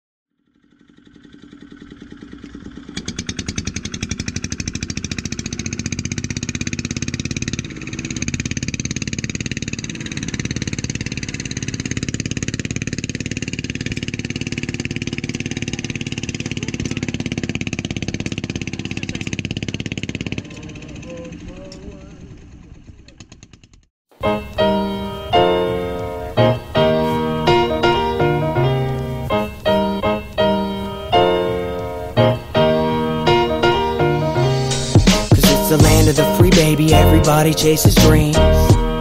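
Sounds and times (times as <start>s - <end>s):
boat engine running: 0.4s - 23.6s, 24.6s - 39.0s.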